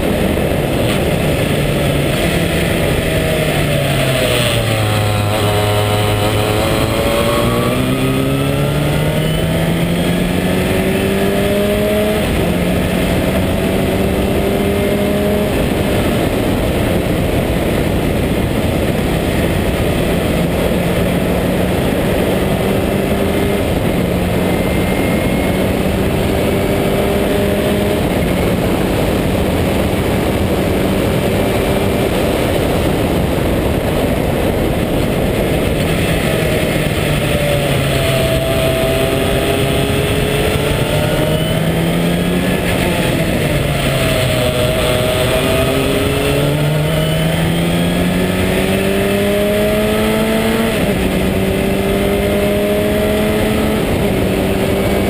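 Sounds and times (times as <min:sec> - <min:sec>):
heavy wind noise: 0:00.0 - 0:55.0
race car engine running hard: 0:00.0 - 0:55.0.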